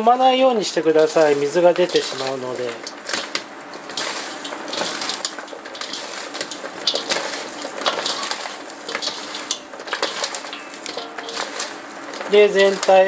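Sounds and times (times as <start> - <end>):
potato slices rustling in colander: 0.0 - 13.0.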